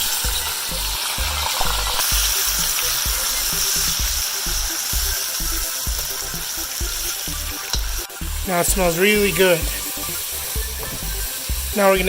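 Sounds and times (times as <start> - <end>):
background music with bass beat: 0.0 - 12.0
curry paste sizzling in a pan: 0.0 - 12.0.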